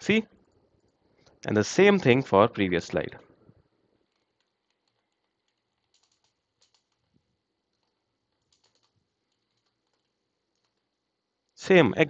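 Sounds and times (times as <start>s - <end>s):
faint keyboard typing: 0.4s - 2.2s, 3.2s - 11.6s.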